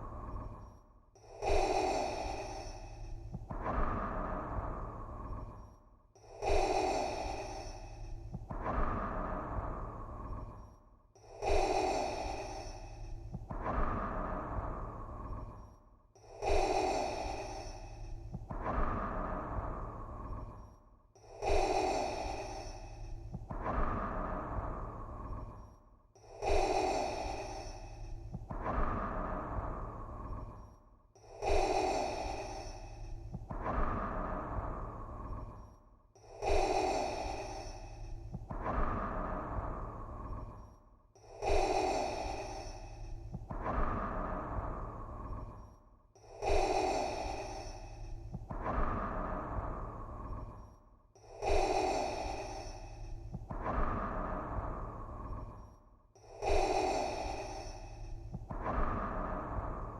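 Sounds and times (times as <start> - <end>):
mechanical respirator breathing: 11.3 - 59.9.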